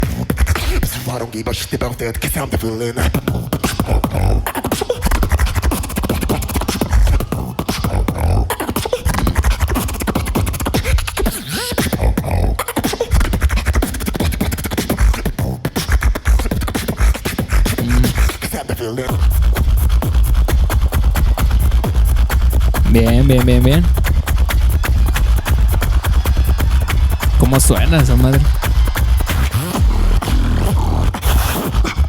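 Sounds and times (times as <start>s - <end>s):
beatboxing: 0.0s - 32.0s.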